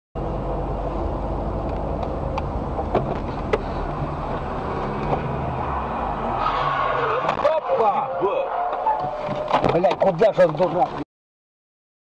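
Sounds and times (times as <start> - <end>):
car engine and road noise: 0.2 - 11.0.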